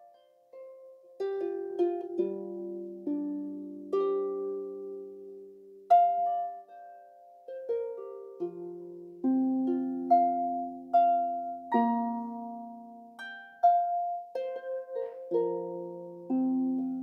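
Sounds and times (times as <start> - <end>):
harp plucked slowly: 0.0 - 17.0.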